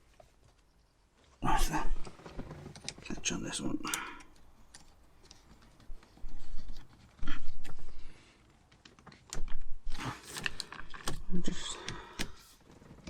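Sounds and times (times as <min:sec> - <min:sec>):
rustling handling noise: 0:00.0 - 0:11.6.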